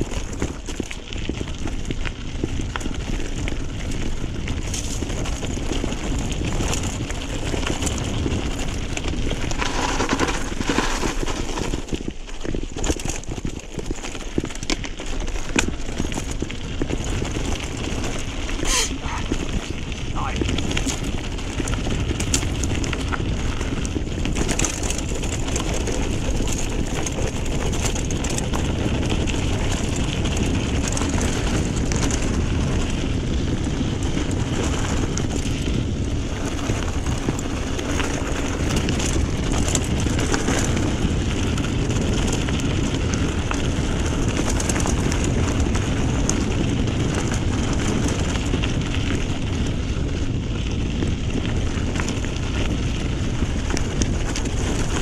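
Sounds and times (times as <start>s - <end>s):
bike rattling and knocking: 0.0s - 55.0s
rushing of tyres and wind: 0.0s - 55.0s.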